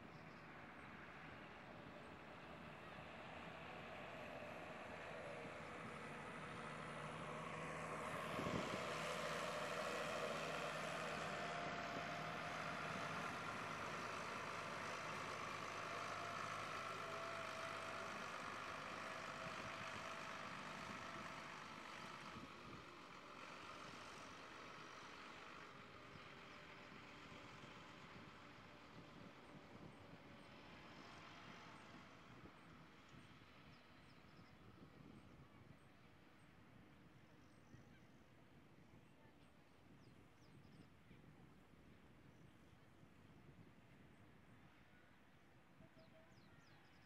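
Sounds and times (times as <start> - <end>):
tractor engine driving past: 0.0 - 39.0.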